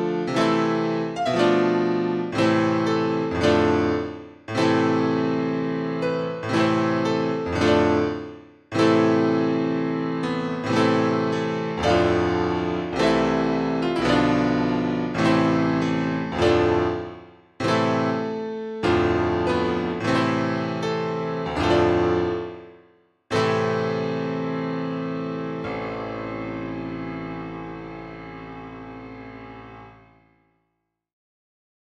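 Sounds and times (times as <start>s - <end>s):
piano chords ringing: 0.0s - 30.2s.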